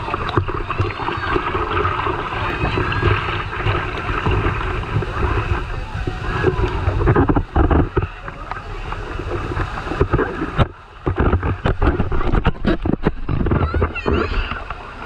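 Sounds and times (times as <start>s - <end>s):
water rushing over rocks: 0.0s - 15.0s
water splashing on microphone: 0.0s - 15.0s.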